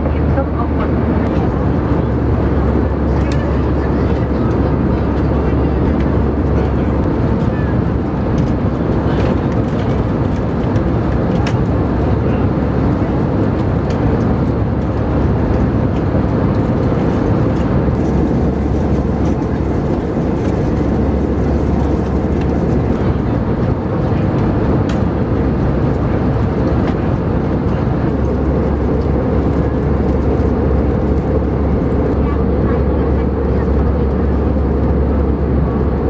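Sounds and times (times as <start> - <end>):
airliner cabin engine noise: 0.0 - 36.0.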